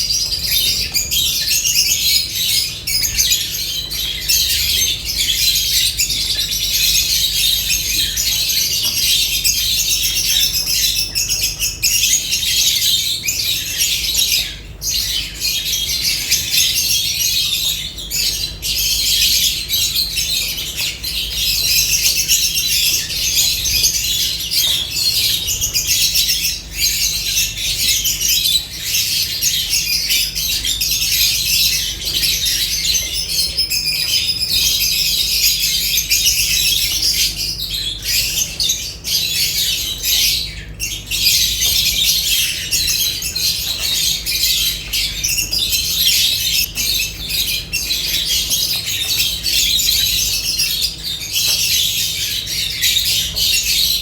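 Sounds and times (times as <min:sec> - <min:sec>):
birds chattering and squawking: 0:00.0 - 0:54.0.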